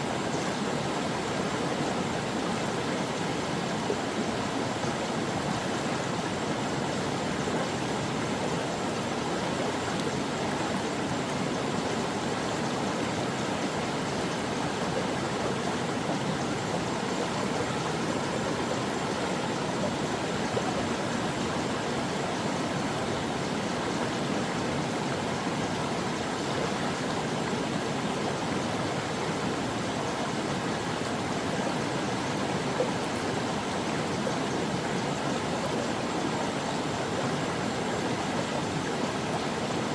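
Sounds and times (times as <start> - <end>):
stream water babbling over rocks: 0.0 - 39.9.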